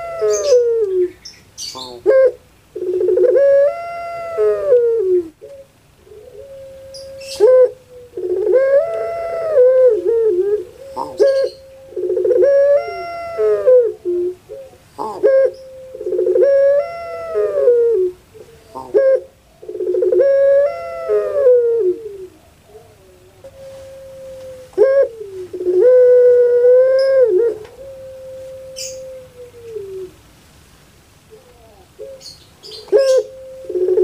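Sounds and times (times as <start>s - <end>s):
dove cooing: 0.0s - 30.2s, 31.2s - 34.0s.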